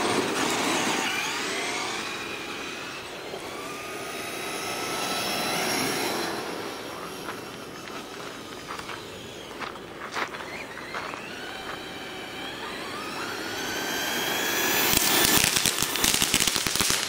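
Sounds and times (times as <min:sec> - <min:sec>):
toy truck electric motor whining: 0:00.0 - 0:16.4.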